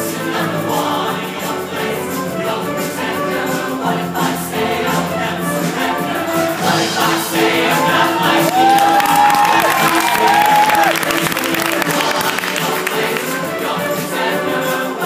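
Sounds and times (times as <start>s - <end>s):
choir singing: 0.0s - 15.0s
musical accompaniment: 0.0s - 15.0s.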